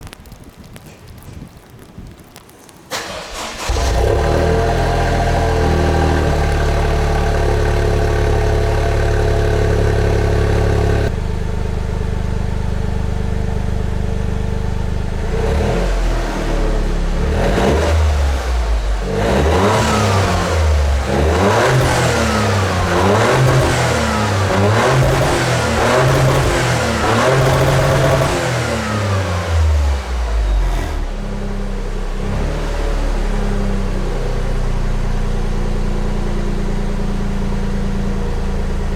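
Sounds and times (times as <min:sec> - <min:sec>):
car engine idling and revving: 0:02.9 - 0:38.9.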